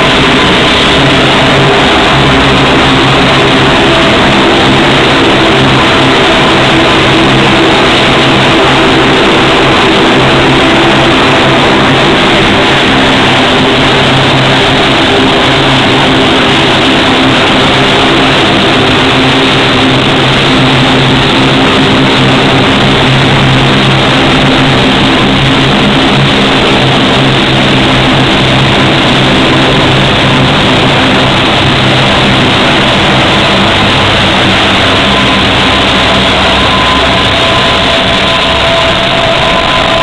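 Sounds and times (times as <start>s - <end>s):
low propeller hum: 0.0s - 40.0s
turboprop engines running: 0.0s - 40.0s.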